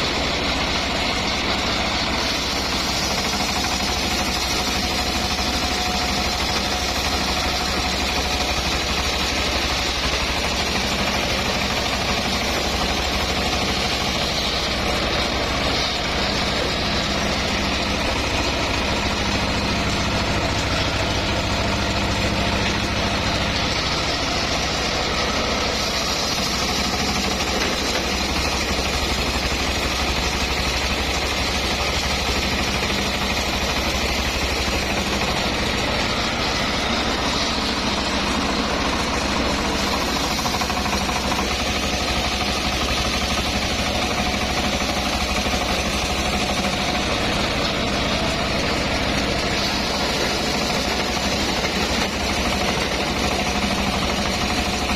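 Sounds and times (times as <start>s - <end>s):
sawmill engine drone: 0.0s - 54.9s.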